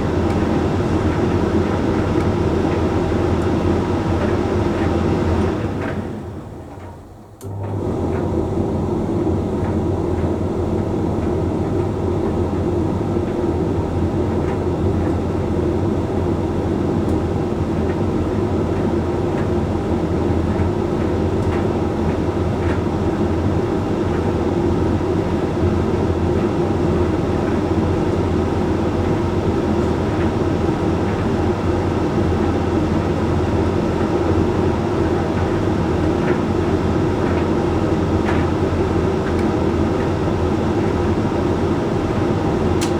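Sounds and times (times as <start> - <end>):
tumble dryer running: 0.0 - 42.9.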